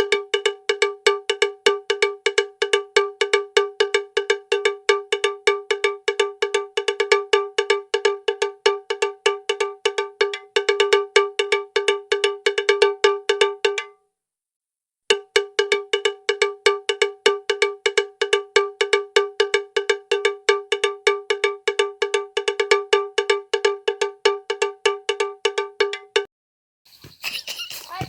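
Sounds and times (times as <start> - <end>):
cowbell clanking fast: 0.0 - 14.0, 15.1 - 26.2.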